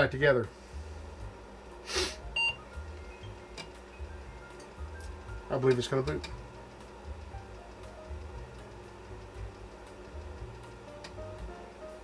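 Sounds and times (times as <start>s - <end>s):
floppy drive humming: 0.0s - 12.0s.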